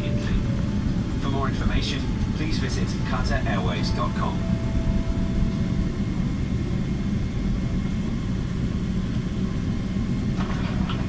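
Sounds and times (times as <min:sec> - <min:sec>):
engine and airflow noise: 0:00.0 - 0:11.0
faint steady hum: 0:00.0 - 0:11.0.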